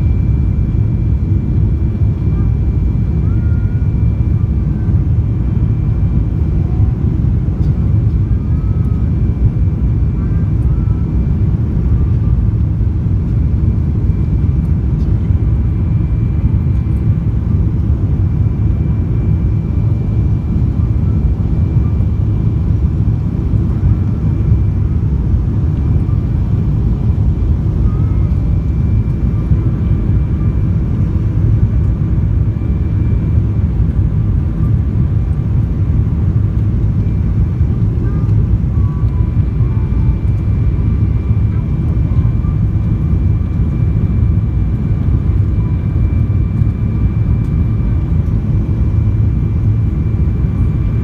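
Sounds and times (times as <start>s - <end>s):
airliner engines roaring in cabin: 0.0s - 51.0s.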